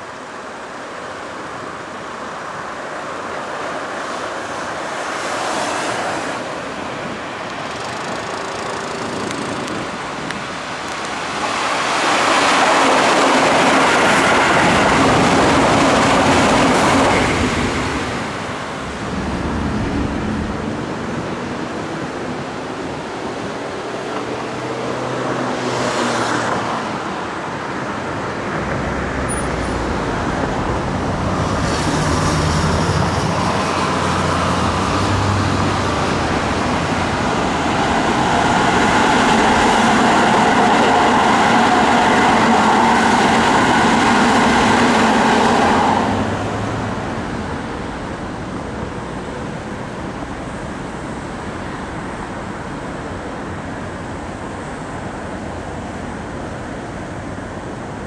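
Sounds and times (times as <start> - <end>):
low train rumble: 0.0 - 25.7, 26.4 - 58.0
electric train passing: 0.0 - 58.0.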